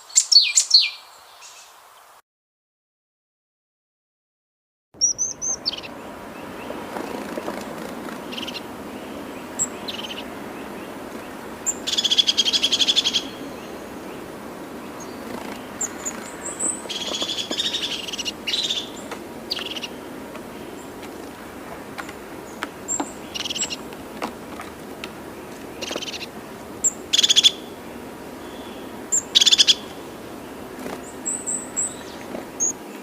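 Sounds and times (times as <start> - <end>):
songbirds chirping and trilling: 0.0 - 2.2, 5.0 - 33.0
steady background hiss: 5.0 - 33.0.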